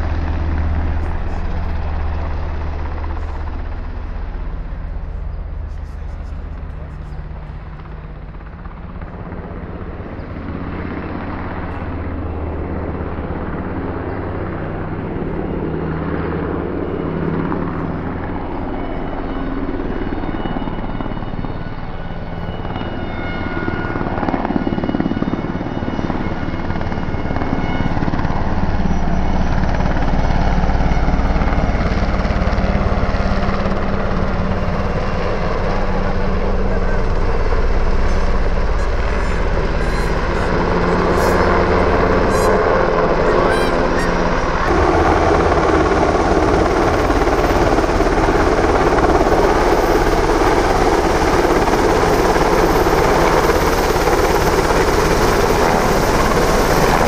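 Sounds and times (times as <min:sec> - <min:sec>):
helicopter rotor and turbine whine: 0:00.0 - 0:57.0.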